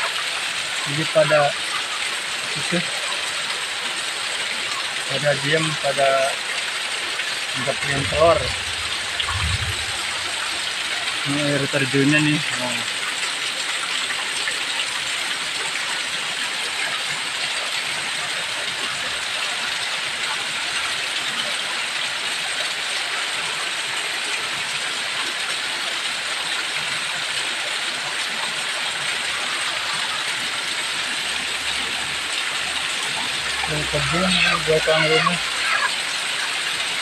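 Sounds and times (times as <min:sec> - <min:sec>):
heavy rain falling: 0:00.0 - 0:37.0
runoff water pouring: 0:00.0 - 0:37.0.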